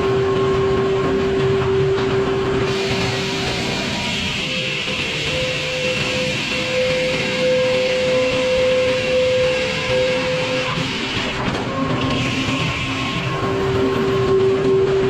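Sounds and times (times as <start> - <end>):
sawmill machinery whining: 0.0 - 15.0.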